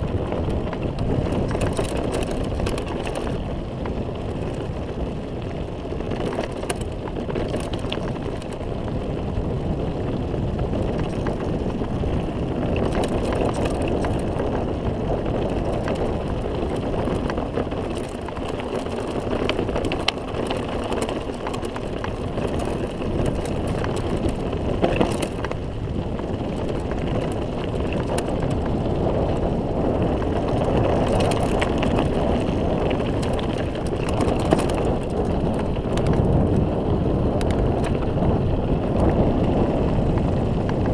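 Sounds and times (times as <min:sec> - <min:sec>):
bike rattling and knocking: 0:00.0 - 0:40.9
bike tyres rumbling on gravel: 0:00.0 - 0:40.9.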